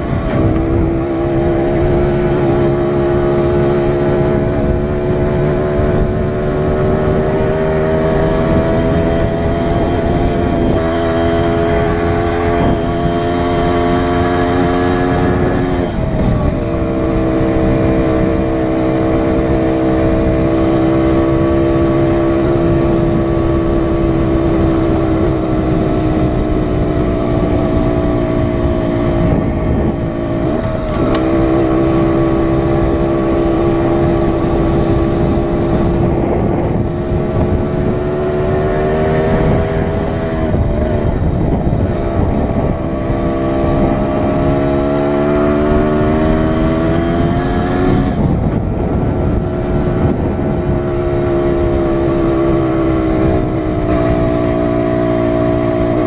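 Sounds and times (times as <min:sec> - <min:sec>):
dirt bike engine running: 0:00.0 - 0:56.0
wind rumble on microphone: 0:00.0 - 0:56.0.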